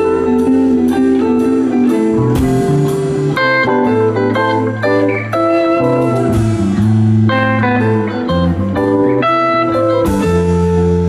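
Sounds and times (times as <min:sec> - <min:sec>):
bass line: 0:00.0 - 0:11.0
drums with cymbals: 0:00.0 - 0:11.0
electric guitar lead: 0:00.0 - 0:11.0.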